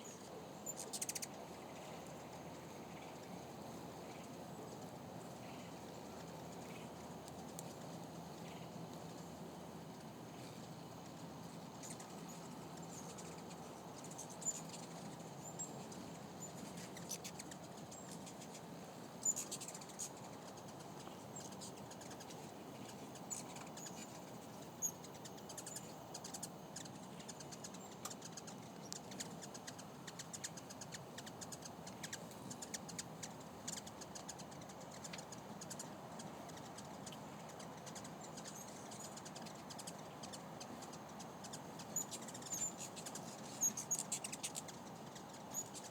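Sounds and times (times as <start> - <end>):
hummingbirds chirping: 0.0 - 9.4, 10.4 - 45.9.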